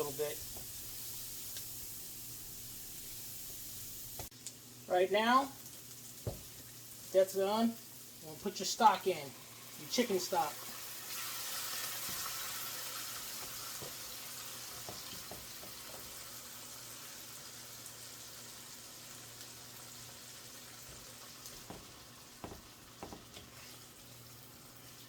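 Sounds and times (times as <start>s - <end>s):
stock sizzling in a pan: 0.0s - 25.0s.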